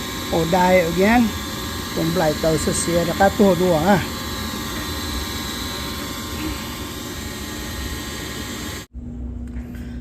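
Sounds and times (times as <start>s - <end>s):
gas furnace fan rushing: 0.0s - 10.0s.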